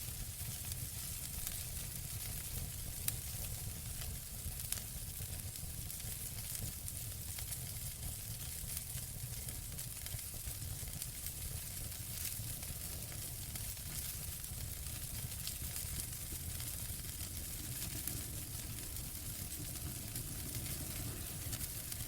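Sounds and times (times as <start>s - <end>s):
fire crackles and pops: 0.0s - 22.0s
wood fire burning: 0.0s - 22.0s.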